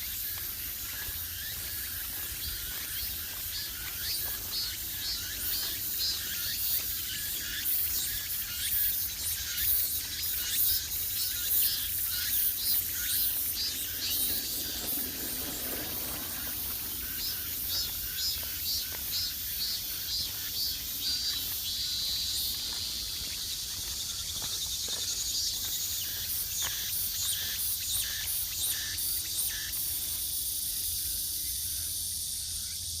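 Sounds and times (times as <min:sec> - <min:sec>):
cicadas buzzing: 0:00.0 - 0:33.0
fast high cicada chorus: 0:00.0 - 0:33.0.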